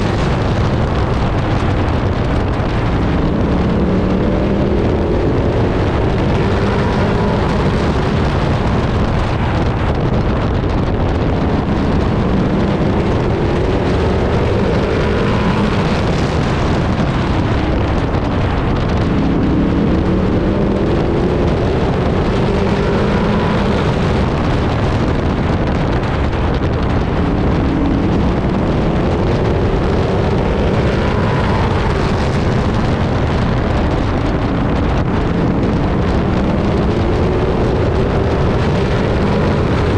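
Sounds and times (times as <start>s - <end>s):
race truck engine revving: 0.0s - 39.9s
wind noise on microphone: 0.0s - 39.9s.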